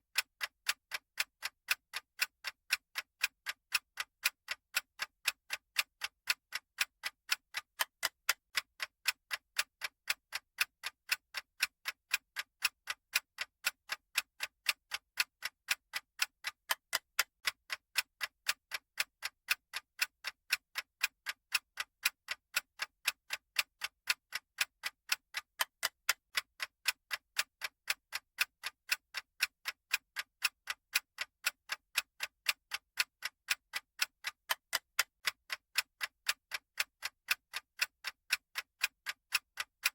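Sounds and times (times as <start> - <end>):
clock-style ticking: 0.0 - 39.9.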